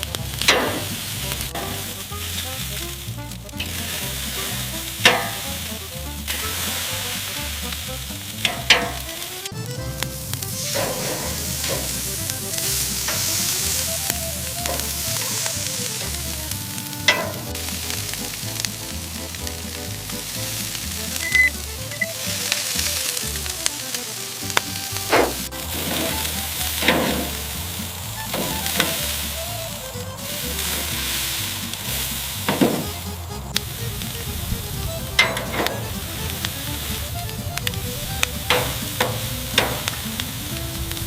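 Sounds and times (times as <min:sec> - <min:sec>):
background music with bass: 0:00.0 - 0:41.0
food sizzling: 0:00.0 - 0:41.0.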